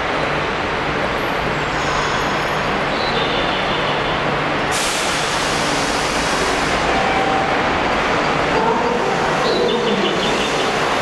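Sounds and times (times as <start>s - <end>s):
loud vehicle rumble: 0.0s - 11.0s.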